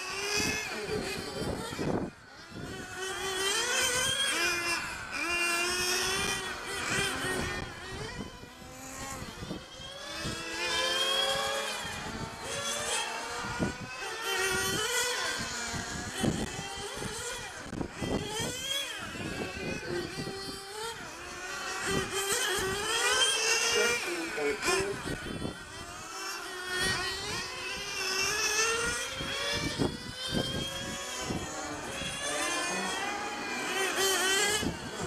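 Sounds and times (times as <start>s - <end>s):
rc car engines whining: 0.0s - 35.0s.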